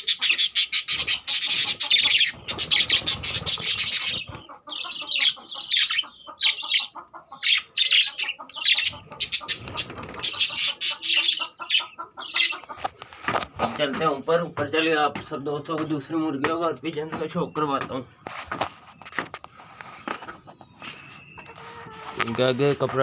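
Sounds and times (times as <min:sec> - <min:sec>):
budgerigars chirping and squawking: 0:00.0 - 0:23.0.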